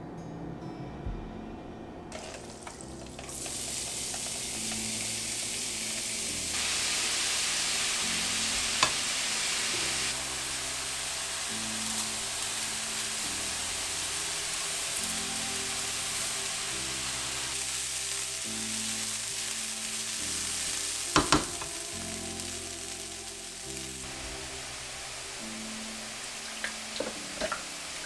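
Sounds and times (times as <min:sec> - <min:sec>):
background music: 0:00.0 - 0:28.0
rice poured into pan: 0:02.1 - 0:28.0
vegetables sizzling in pan: 0:02.1 - 0:28.0.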